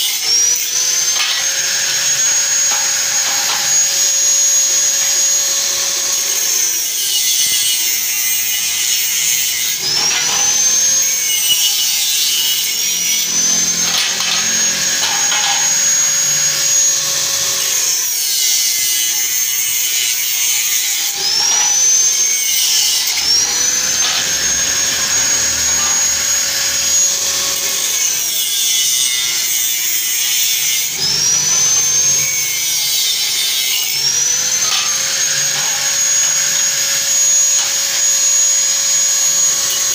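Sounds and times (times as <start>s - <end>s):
angle grinder cutting steel: 0.0s - 39.9s.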